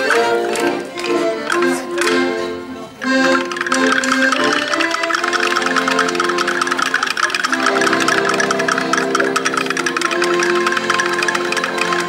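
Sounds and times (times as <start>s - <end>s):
accordions playing held chords: 0.0s - 12.0s
quick rhythmic ticking: 0.0s - 12.0s.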